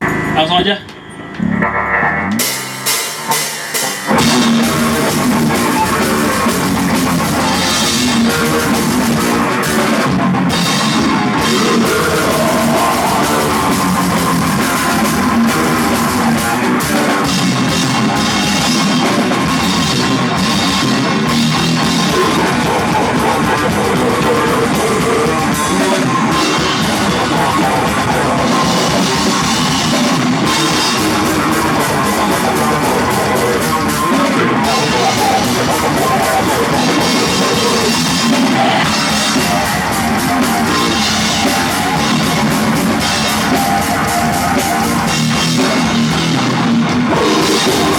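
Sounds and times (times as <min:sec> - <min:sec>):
distorted electric guitars: 0:00.0 - 0:47.9
metal band playing live: 0:00.0 - 0:47.9
pounding drums: 0:00.0 - 0:47.9.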